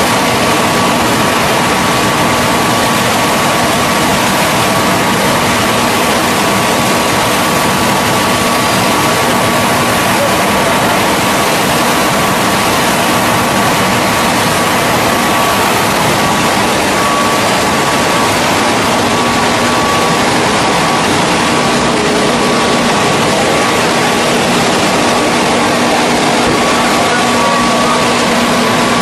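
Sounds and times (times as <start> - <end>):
veneer lathe machine whine: 0.0 - 29.0.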